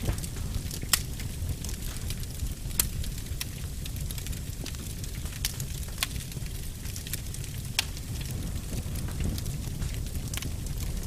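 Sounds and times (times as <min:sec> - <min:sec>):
fire crackling and popping: 0:00.0 - 0:11.0
fire rumbling: 0:00.0 - 0:11.0.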